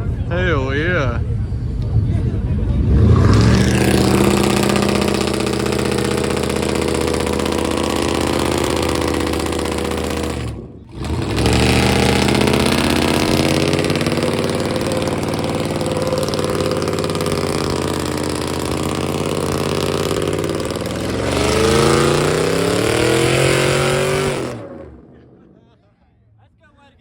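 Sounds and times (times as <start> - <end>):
truck engine revving: 1.2 - 25.8.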